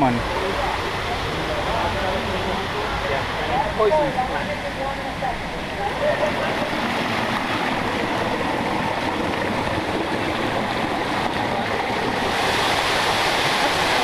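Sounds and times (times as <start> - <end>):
rushing stream water: 0.0 - 14.0.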